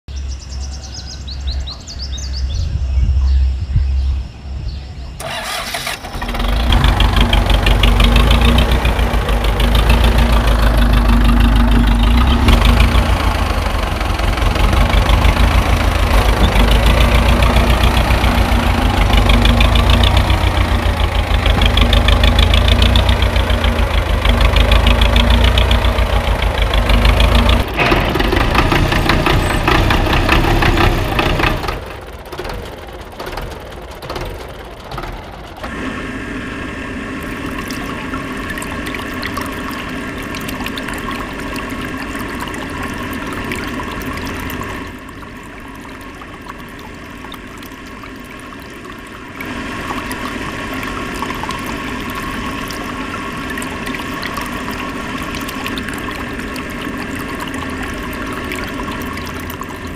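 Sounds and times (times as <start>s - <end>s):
tractor engine starting and running: 5.2s - 59.9s.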